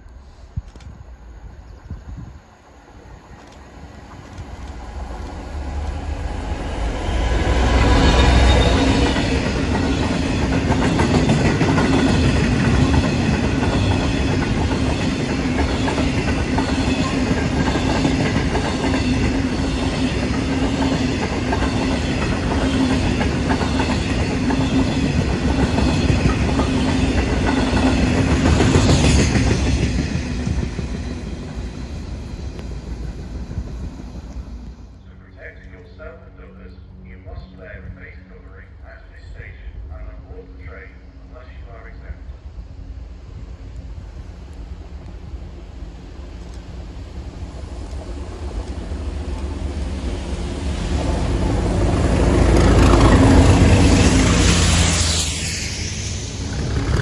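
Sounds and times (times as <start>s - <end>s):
diesel locomotive passing: 0.0s - 57.0s.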